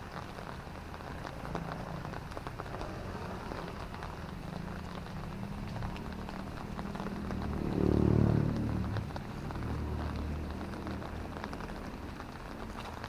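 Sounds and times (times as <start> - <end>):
city traffic rumble: 0.0 - 13.0
drizzling rain: 0.0 - 13.0
vehicle approaching: 0.0 - 13.0.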